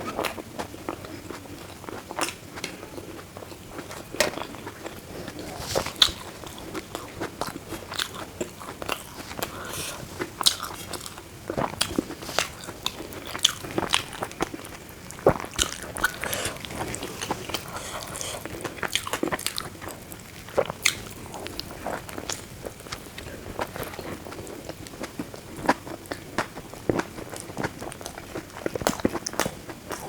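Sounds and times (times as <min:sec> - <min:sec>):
chewing and biting food: 0:00.1 - 0:30.0.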